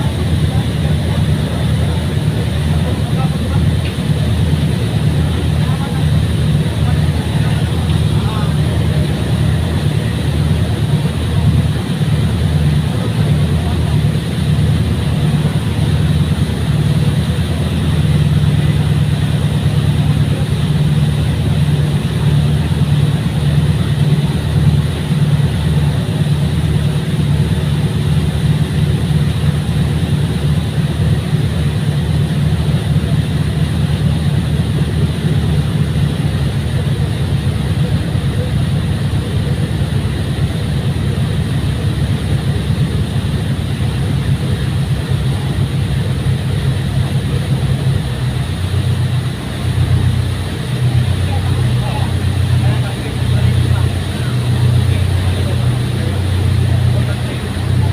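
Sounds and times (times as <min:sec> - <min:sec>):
ferry engines droning: 0:00.0 - 0:57.9.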